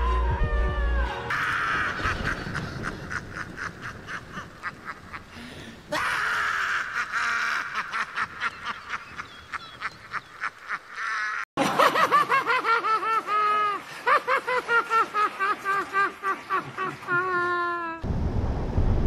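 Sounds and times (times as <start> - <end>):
another man laughing: 1.3 - 18.0
man cackling laughter: 1.3 - 18.0.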